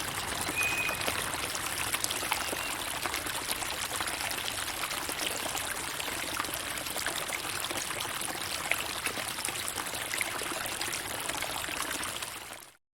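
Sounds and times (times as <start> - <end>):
water trickling and splashing: 0.0 - 12.8.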